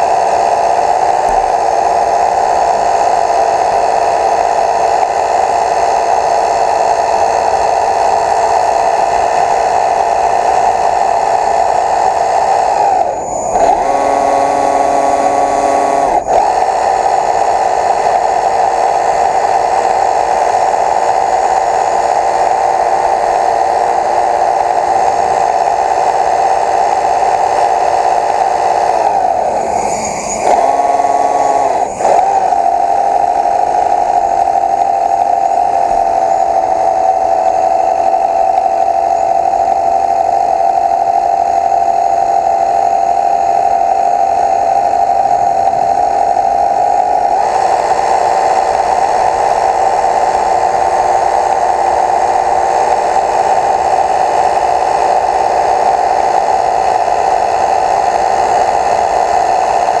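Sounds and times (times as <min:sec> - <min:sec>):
motor whining: 0:00.0 - 1:00.0.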